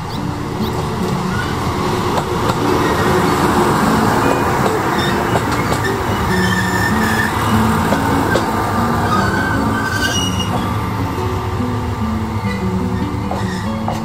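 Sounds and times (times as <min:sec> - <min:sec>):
brake squeals: 0:00.0 - 0:14.0
diesel railcar engine and wheels: 0:00.0 - 0:14.0.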